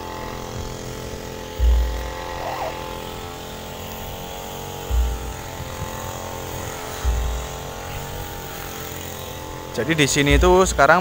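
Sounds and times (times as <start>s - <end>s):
engine humming steadily: 0.0s - 11.0s
low thumps: 0.3s - 11.0s.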